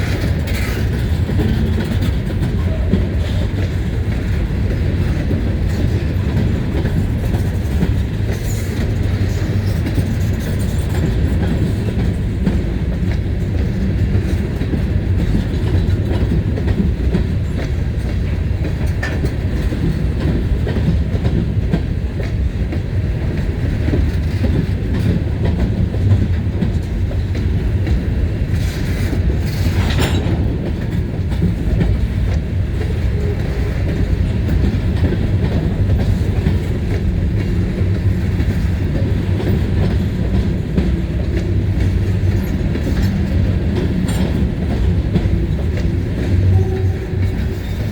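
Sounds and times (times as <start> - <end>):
freight train rolling past: 0.0 - 47.9.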